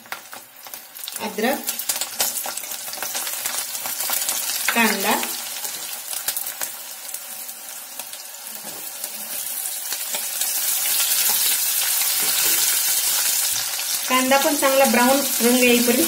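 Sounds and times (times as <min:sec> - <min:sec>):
food sizzling in ghee: 0:00.0 - 0:16.0.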